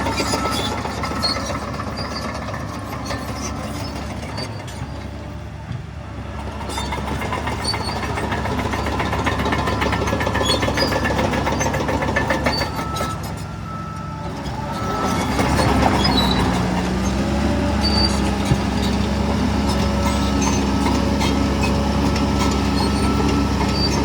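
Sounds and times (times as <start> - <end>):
heavy diesel engine under load: 0.0 - 24.0.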